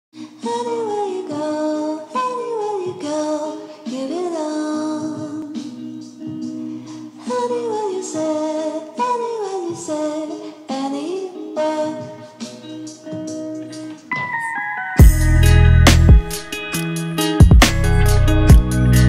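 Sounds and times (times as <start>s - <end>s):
song with singing voice: 0.2s - 19.0s.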